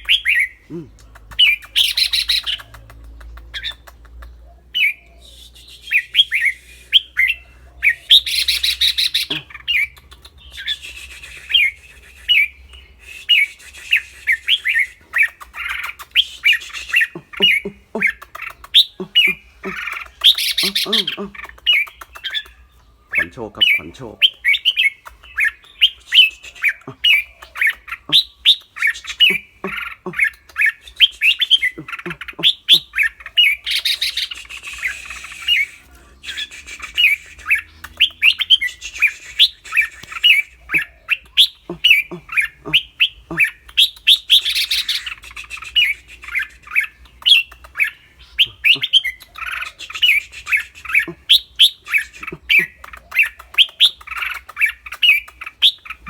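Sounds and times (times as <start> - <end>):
harsh scratchy bird chattering: 0.0 - 56.0
bulbul singing whistled notes: 4.7 - 56.0.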